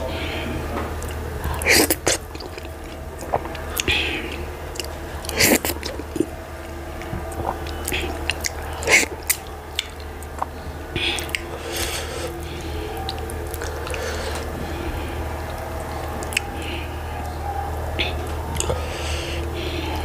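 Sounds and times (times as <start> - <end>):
steady low hum: 0.0 - 20.0
wet squelches: 0.0 - 20.0
chewing and lip smacks: 0.2 - 20.0.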